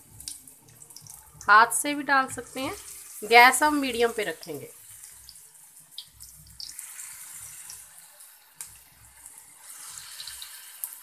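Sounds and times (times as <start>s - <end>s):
batter sizzling in hot oil: 0.0s - 11.0s.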